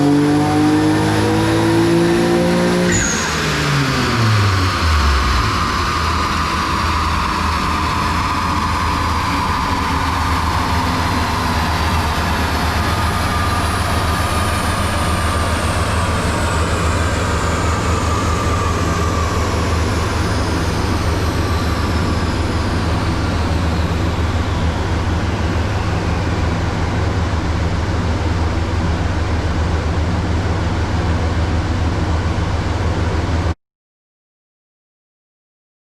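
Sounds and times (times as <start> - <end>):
high whine of rollers spinning down: 0.0 - 33.5
car engine idling: 3.0 - 33.4.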